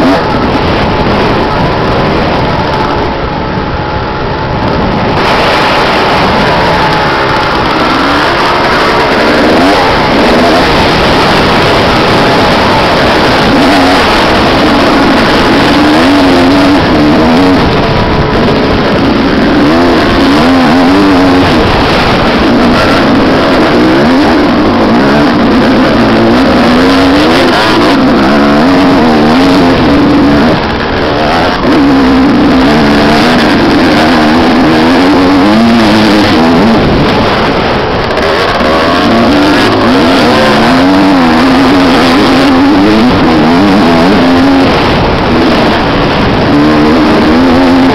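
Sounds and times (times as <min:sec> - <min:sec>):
motorcycle engines revving hard: 0:00.0 - 0:47.9.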